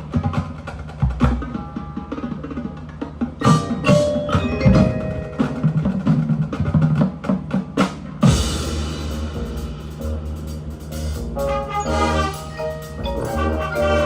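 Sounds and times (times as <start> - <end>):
marching band playing: 0.0 - 14.0
wood-block and drum strikes: 0.0 - 14.0.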